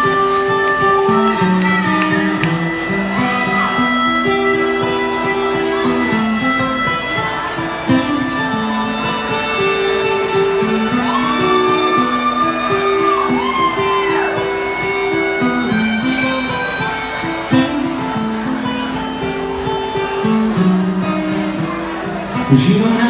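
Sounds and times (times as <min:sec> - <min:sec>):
harmonica melody: 0:00.0 - 0:22.5
strummed acoustic guitar: 0:00.0 - 0:23.0.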